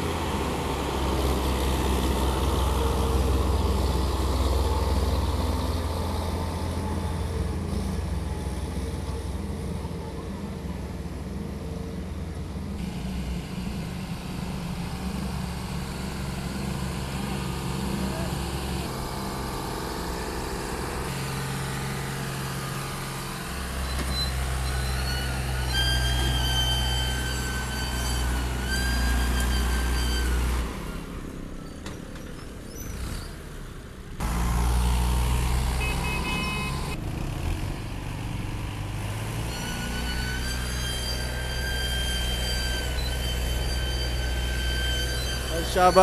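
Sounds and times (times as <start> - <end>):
tractor diesel engine drone: 0.0 - 46.0.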